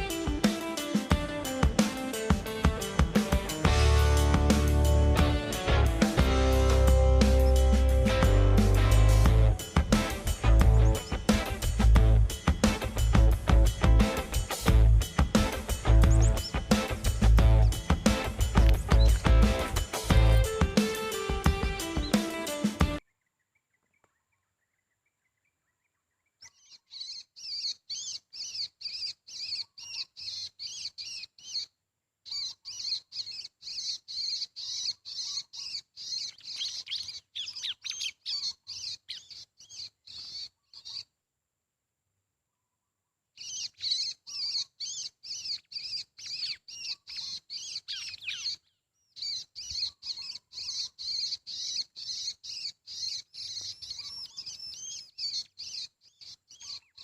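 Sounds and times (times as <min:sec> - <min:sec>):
small songbird chirping: 0:06.2 - 0:08.1, 0:09.0 - 0:22.4, 0:23.0 - 0:41.2, 0:43.3 - 0:57.0.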